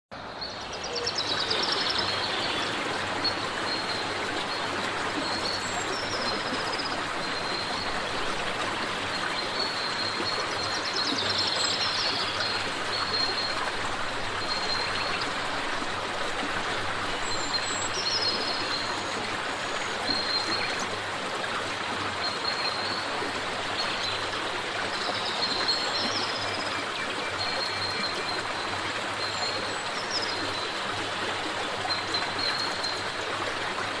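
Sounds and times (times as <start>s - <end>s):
river water rushing over stones: 0.2s - 34.0s.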